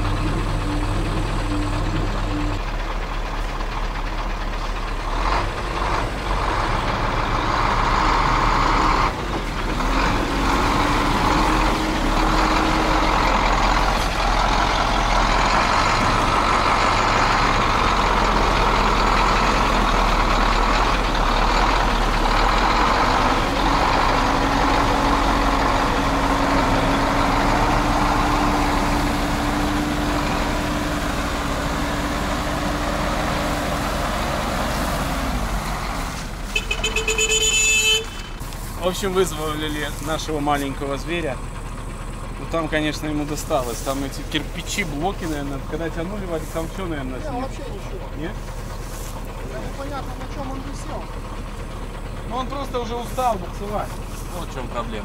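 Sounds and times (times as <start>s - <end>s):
truck diesel engine revving: 0.0s - 55.0s.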